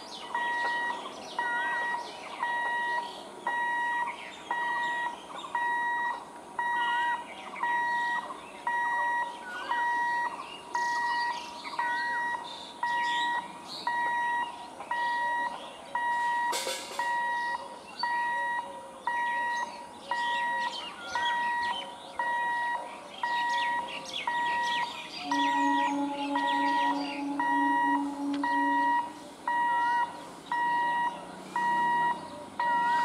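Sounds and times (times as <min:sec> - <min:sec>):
electronic warning beeps: 0:00.3 - 0:33.0
lower beeping tone: 0:00.4 - 0:33.0.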